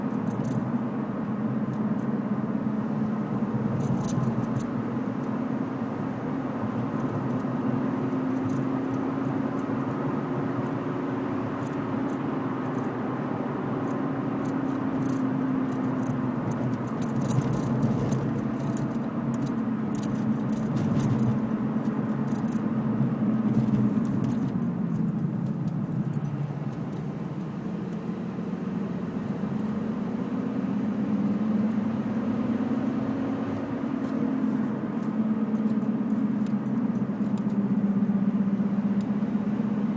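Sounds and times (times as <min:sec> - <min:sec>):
tyres droning on road: 0:00.0 - 0:39.9.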